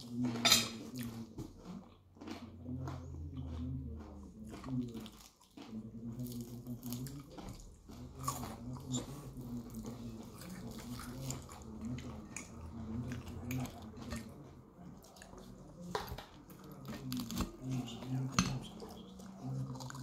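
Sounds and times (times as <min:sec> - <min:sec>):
chewing crispy fried food: 0:00.0 - 0:20.0.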